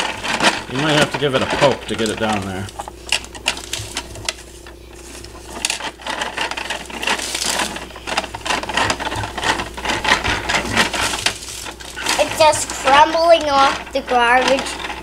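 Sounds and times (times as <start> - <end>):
toy compactor clicking and rattling: 0.0 - 4.4, 5.5 - 15.0.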